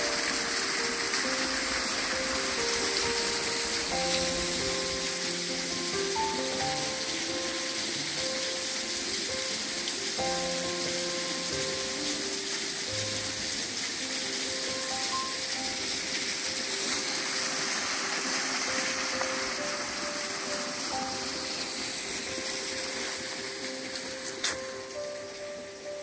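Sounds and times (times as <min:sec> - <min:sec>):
soft instrumental music: 0:00.0 - 0:26.0
steady hiss: 0:00.0 - 0:26.0.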